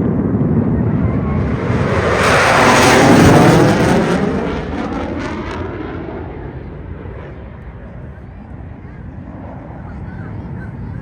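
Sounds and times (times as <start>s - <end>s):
fighter jet passing overhead: 0.0s - 11.0s.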